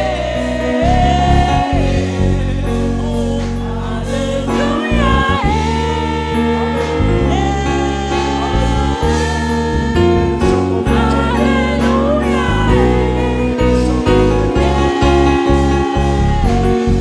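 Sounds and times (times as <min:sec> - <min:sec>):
bass guitar: 0:00.0 - 0:17.0
choir and congregation singing: 0:00.0 - 0:17.0
keyboard: 0:00.0 - 0:17.0.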